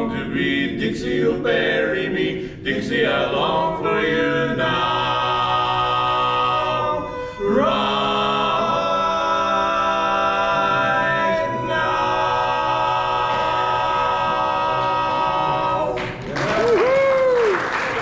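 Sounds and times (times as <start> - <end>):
male quartet singing a cappella: 0.0 - 16.2.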